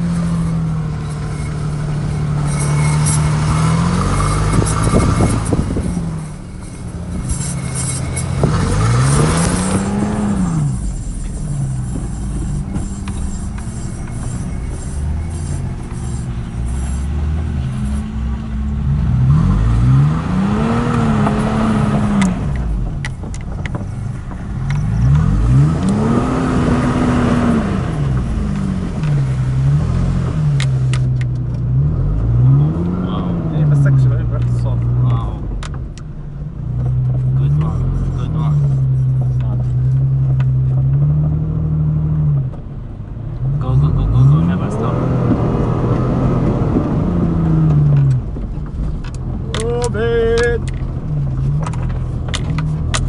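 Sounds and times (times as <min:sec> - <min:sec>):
suv engine revving: 0:00.0 - 0:53.0.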